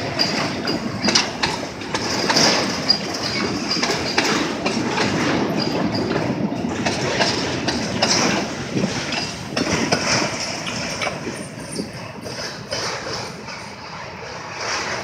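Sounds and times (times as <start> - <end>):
freight cars rumbling and rattling: 0.0 - 15.0
wheels clattering over rail joints: 0.0 - 15.0.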